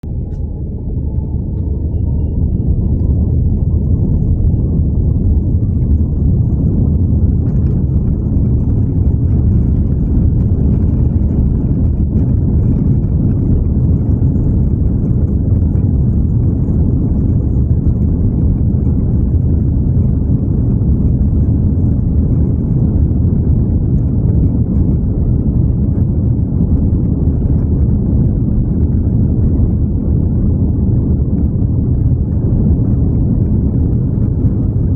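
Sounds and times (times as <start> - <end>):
airplane taking off: 0.0 - 34.9.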